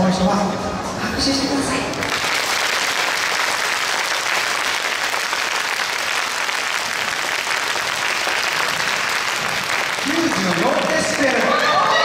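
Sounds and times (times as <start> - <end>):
audience clapping: 1.9 - 12.0.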